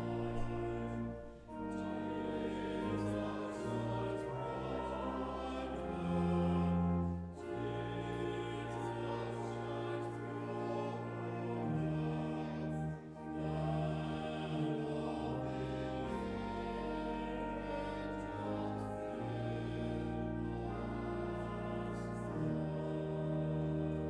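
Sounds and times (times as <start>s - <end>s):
church organ chords: 0.0s - 24.0s.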